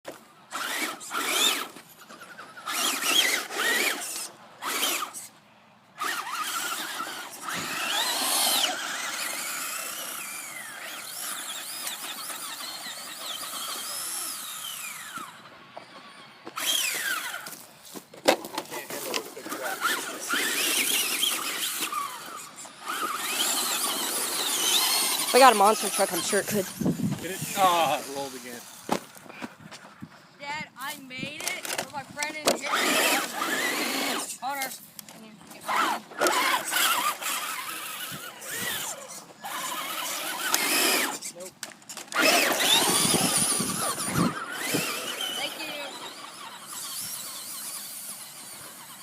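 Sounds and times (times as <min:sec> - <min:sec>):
electric motor whining: 0:00.5 - 0:05.3, 0:06.0 - 0:17.6, 0:18.9 - 0:29.2, 0:31.3 - 0:34.7, 0:35.5 - 0:49.0.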